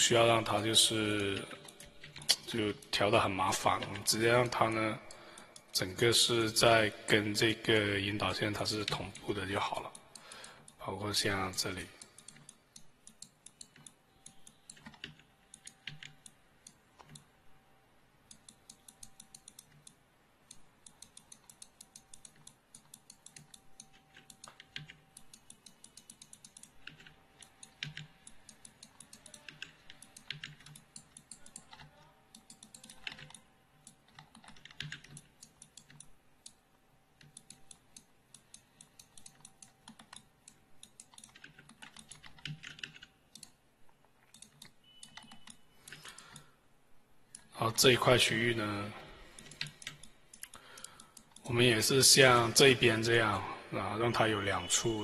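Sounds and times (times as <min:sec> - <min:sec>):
keyboard and mouse clicking: 0:00.4 - 0:05.8, 0:08.5 - 0:10.8, 0:11.5 - 0:17.4, 0:18.2 - 0:46.6, 0:49.2 - 0:52.7.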